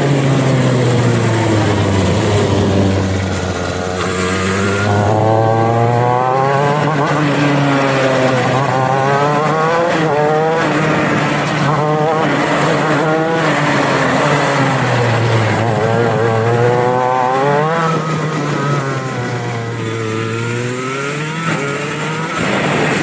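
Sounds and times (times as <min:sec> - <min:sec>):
kart engines revving: 0:00.0 - 0:23.0.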